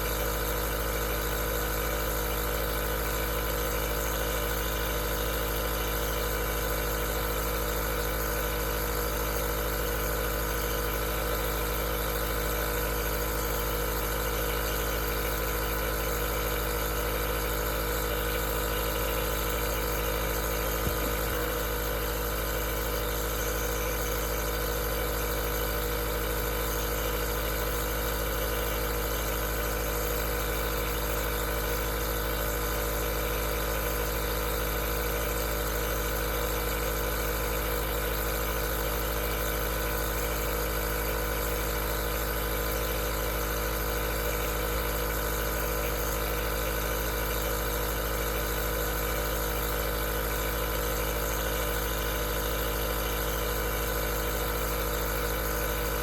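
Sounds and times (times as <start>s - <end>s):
nebulizer humming: 0.0s - 32.4s, 42.8s - 56.0s.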